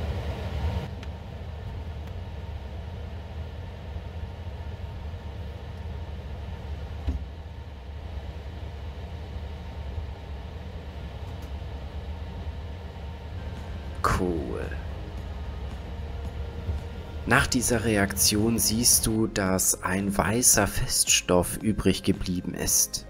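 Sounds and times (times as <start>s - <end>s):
fume hood ventilation rumble: 0.0s - 23.0s.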